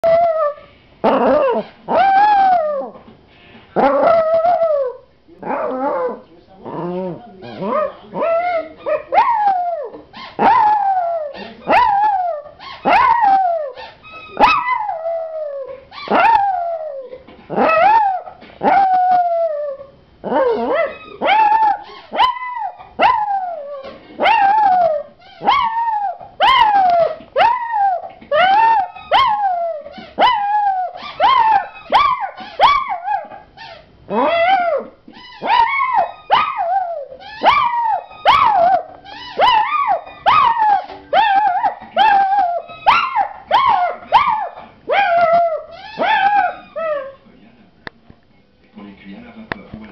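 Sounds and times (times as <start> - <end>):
puppy howling: 0.0 - 3.0, 3.8 - 47.2.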